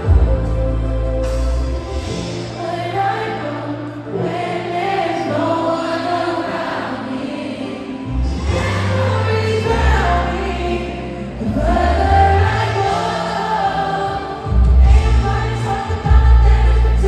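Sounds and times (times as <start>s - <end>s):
live concert music: 0.0s - 17.0s.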